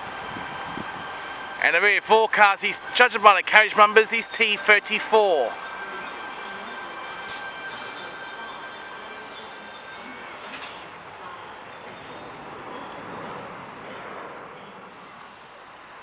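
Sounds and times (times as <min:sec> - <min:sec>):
high thin squealing: 0:00.0 - 0:14.1
electric train rushing noise: 0:00.0 - 0:14.6.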